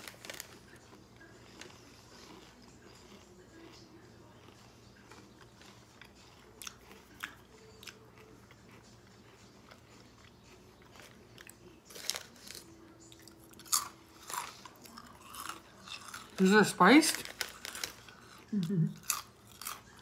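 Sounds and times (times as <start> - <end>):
chewing crunchy chips: 0.0 - 20.0.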